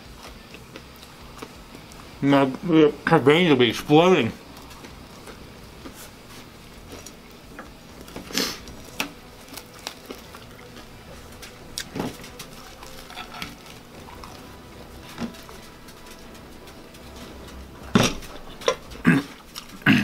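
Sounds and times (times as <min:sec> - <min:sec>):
chewing: 0:00.1 - 0:02.1, 0:04.5 - 0:20.0.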